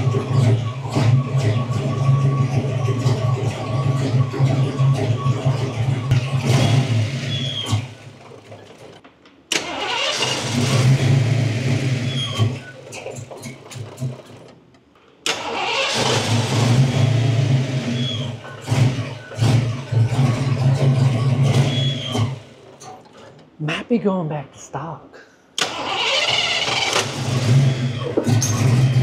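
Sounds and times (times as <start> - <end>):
car engine starting and stalling: 0.0 - 23.6, 25.6 - 29.0.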